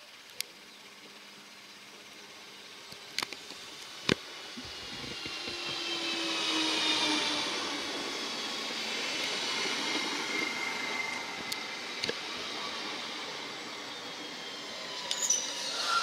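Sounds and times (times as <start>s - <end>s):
faint high whine: 0.0s - 16.0s
train wheels rolling on rail: 3.0s - 16.0s.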